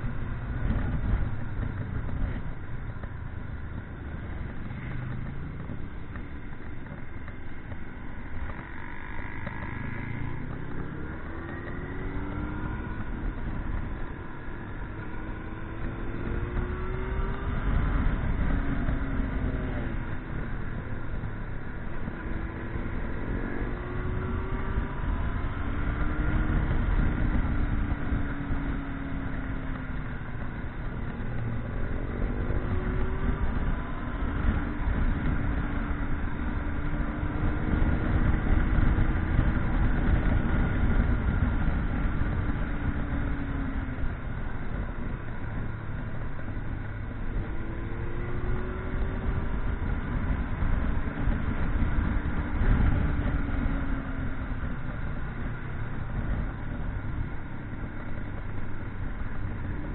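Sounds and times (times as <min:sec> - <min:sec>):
motorcycle engine speeding up: 0:00.0 - 0:59.9
wind and road noise: 0:00.0 - 0:59.9.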